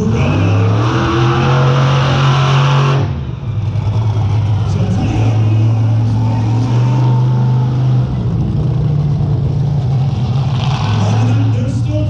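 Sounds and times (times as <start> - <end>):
truck engine running hard: 0.0 - 12.0.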